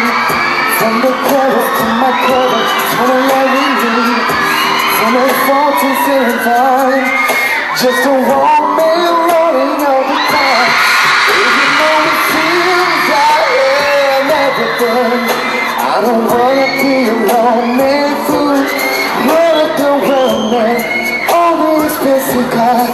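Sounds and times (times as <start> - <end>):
amplified backing music: 0.0 - 22.9
crowd cheering: 0.0 - 22.9
man singing into microphone: 0.0 - 22.9.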